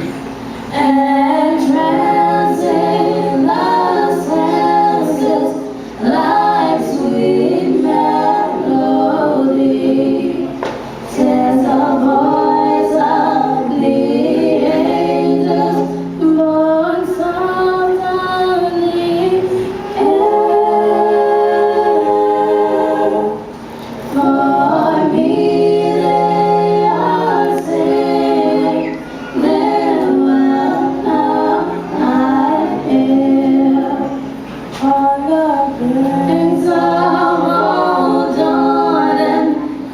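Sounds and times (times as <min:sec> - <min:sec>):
a cappella choir singing: 0:00.0 - 0:39.9.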